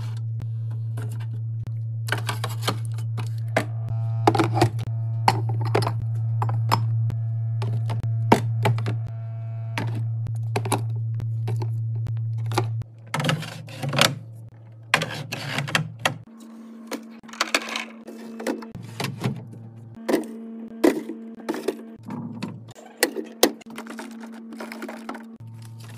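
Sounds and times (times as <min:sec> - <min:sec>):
items clacking and thunking: 0:00.0 - 0:07.0, 0:07.6 - 0:09.1, 0:09.8 - 0:25.9
steady low hum: 0:00.0 - 0:25.9.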